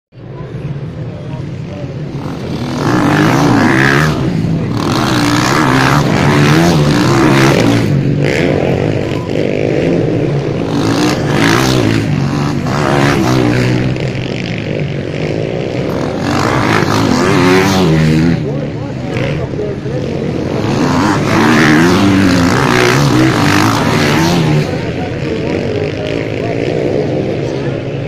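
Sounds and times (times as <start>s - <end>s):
motocross bikes revving: 0.2s - 28.0s
motorbike passing close: 0.9s - 28.0s.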